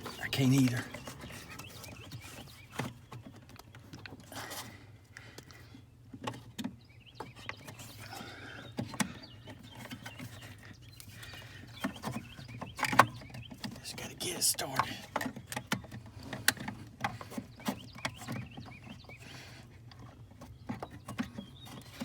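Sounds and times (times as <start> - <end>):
hands fumbling clicks and rustles: 0.0 - 13.9, 14.6 - 22.0.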